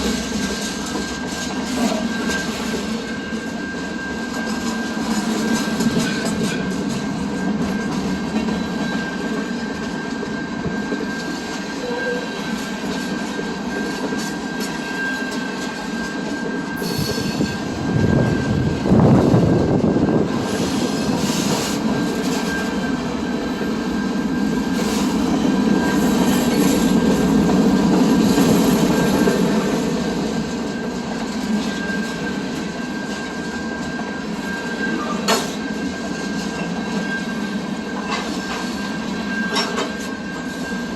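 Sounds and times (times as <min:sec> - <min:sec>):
train rumble: 0:00.0 - 0:40.9
train wheel squeal: 0:00.0 - 0:40.9.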